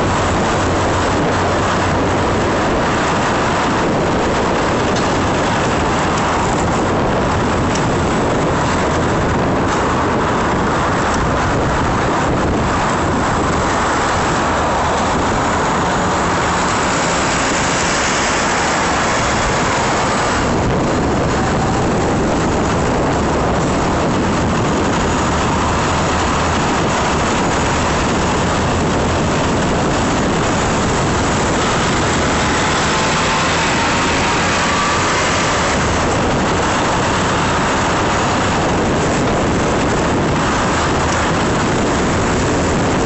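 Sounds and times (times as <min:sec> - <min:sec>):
road noise: 0:00.0 - 0:43.0
wind rushing: 0:00.0 - 0:43.0.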